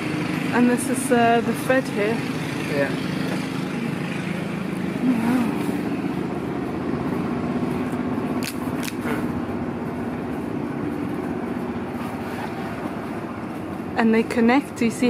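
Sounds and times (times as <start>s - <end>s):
engine running with low drone: 0.0s - 15.0s.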